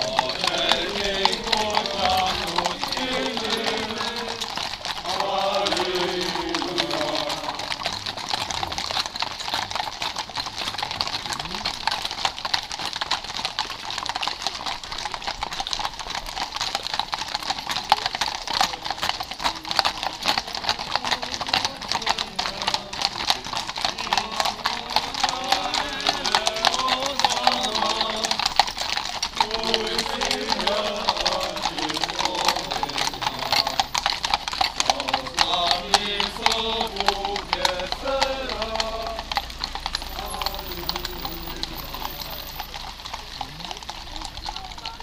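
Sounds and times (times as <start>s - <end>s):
horse hooves on asphalt: 0.0s - 45.0s
voices: 0.0s - 45.0s.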